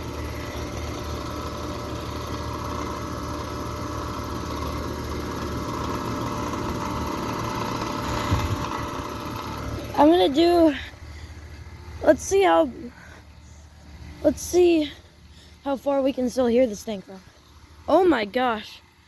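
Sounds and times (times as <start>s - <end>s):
heat pump compressor hum and rattle: 0.0s - 19.0s.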